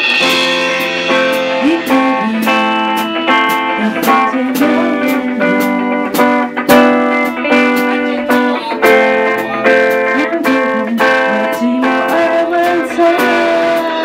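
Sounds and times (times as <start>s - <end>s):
guitar notes with bending pitch: 0.0s - 14.0s
sharp percussion beat: 0.0s - 14.0s.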